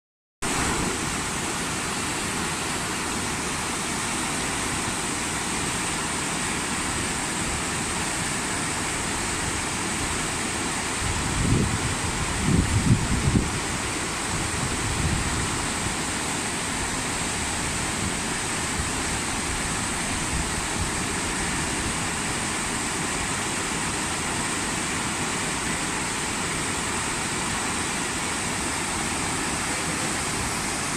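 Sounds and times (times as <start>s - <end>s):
low wind gusts: 0.4s - 30.9s
running water rushing: 0.4s - 30.9s.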